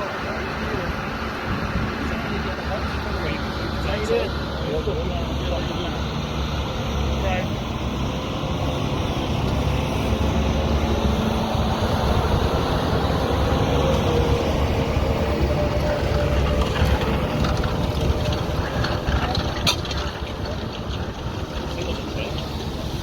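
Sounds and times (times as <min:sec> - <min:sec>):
heavy vehicle engine rumbling: 0:00.0 - 0:23.0.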